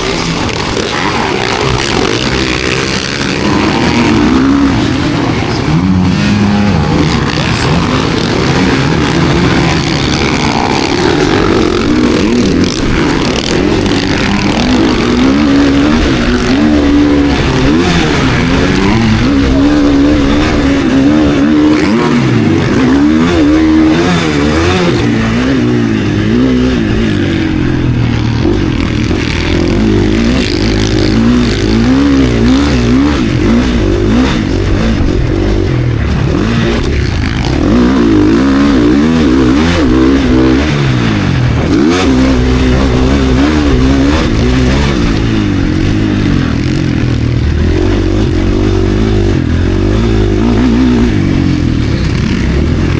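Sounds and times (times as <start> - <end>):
motocross engine revving: 0.0 - 52.9.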